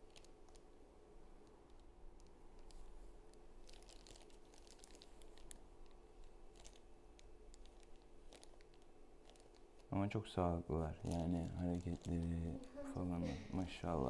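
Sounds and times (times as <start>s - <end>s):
faint steady hum: 0.0s - 14.0s
plastic crinkling and rustling: 0.0s - 14.0s.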